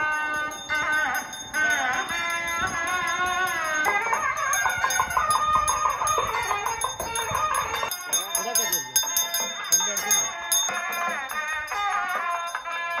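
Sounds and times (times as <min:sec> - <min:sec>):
hand bell ringing rapidly: 0:00.0 - 0:13.0
music with gliding melody: 0:00.0 - 0:13.0.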